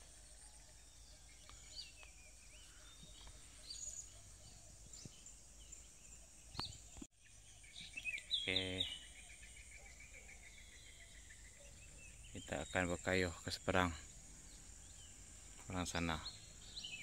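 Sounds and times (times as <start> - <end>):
high insect hum: 0.0 - 17.0.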